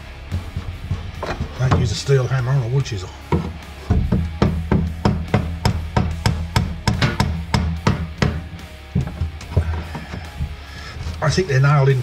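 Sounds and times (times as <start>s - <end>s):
drum beat: 0.0s - 10.6s
bass line: 0.0s - 12.0s.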